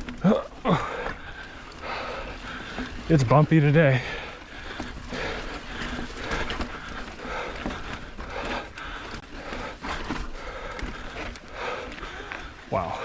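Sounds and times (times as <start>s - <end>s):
person breathing hard: 0.6s - 3.1s, 3.9s - 13.0s.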